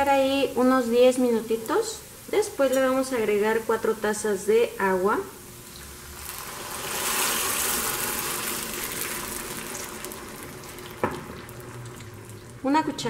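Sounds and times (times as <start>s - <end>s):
water hissing in hot skillet: 0.0s - 12.8s.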